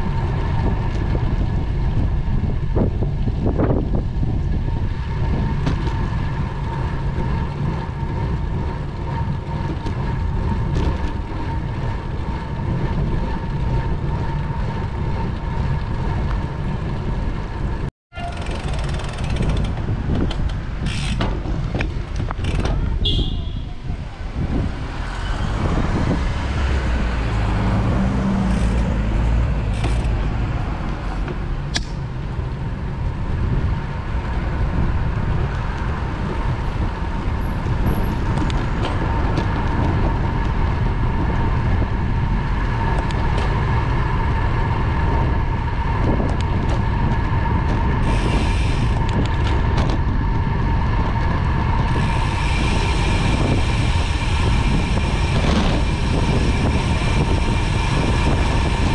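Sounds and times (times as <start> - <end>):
tyres running on road: 0.0 - 58.9
wind rumble on microphone: 0.0 - 58.9.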